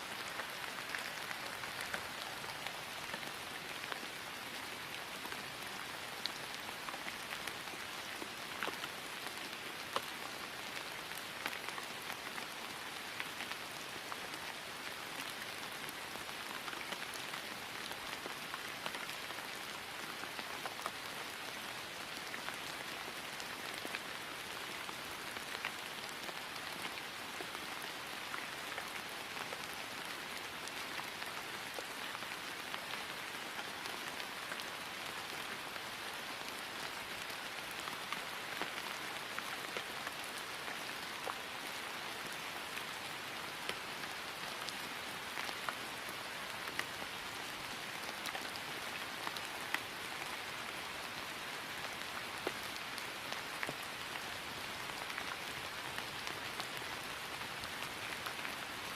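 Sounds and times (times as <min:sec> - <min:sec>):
rain falling on grass: 0:00.0 - 0:58.9.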